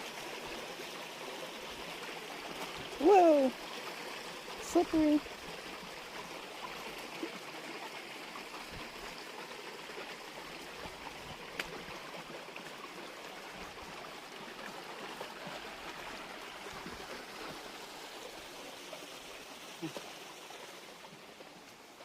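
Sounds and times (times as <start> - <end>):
small waterfall rushing: 0.0 - 22.0.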